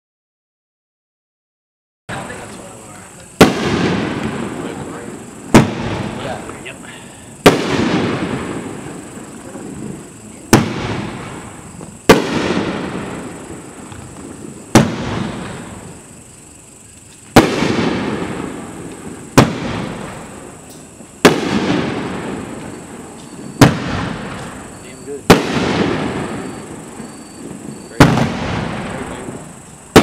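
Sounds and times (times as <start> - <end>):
firework shell bangs: 3.4 - 6.8, 7.4 - 16.0, 17.1 - 27.0, 27.9 - 30.0.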